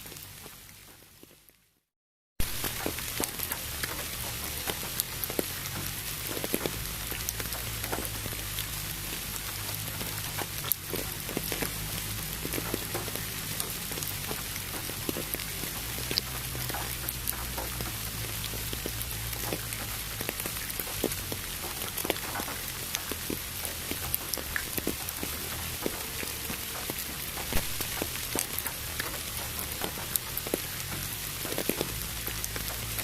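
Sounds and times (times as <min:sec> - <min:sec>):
raindrops ticking: 0:00.0 - 0:01.6, 0:02.4 - 0:33.0
steady rain: 0:00.0 - 0:01.7, 0:02.4 - 0:33.0.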